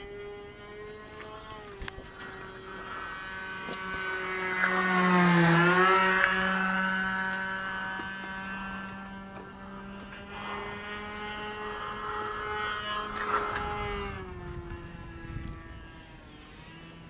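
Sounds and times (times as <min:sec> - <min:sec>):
model airplane engine passing: 0:00.0 - 0:17.0.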